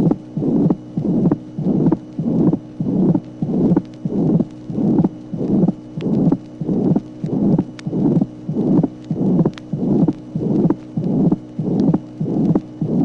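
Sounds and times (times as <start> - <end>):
heartbeat with murmur: 0.0 - 13.0.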